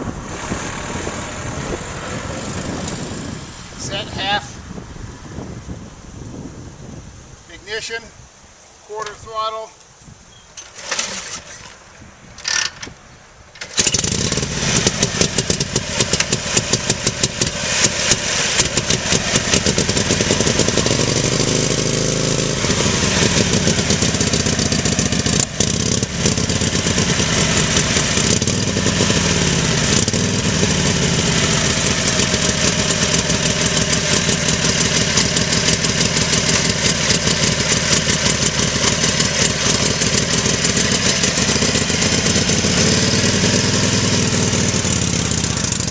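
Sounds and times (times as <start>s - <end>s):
motorcycle engine starting and idling: 0.0s - 4.3s, 10.5s - 45.9s.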